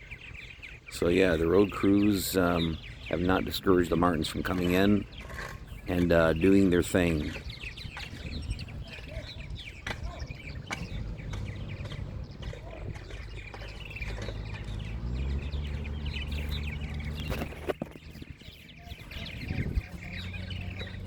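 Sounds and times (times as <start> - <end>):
birds chattering: 0.0 - 21.0
engines humming: 0.0 - 21.0.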